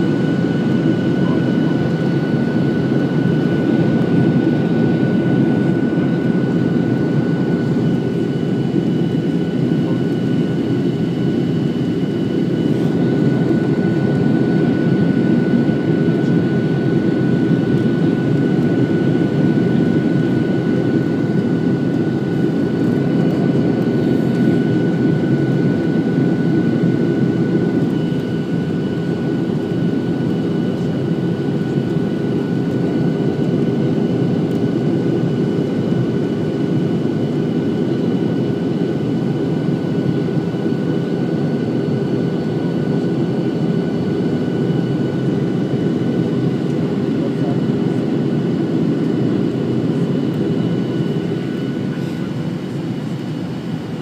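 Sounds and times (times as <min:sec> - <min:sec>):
jet engine roar and airflow: 0:00.0 - 0:54.0.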